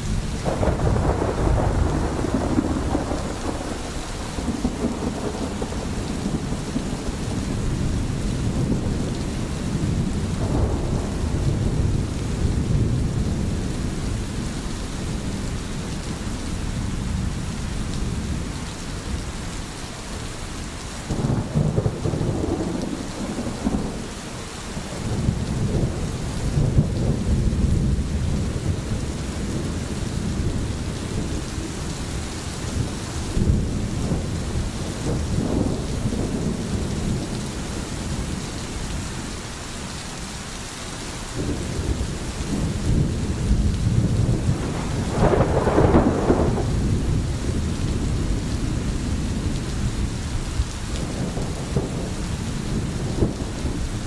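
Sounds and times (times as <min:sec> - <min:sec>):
rolling thunder: 0:00.0 - 0:19.2, 0:21.1 - 0:39.3, 0:41.4 - 0:54.0
rain falling: 0:00.0 - 0:54.0.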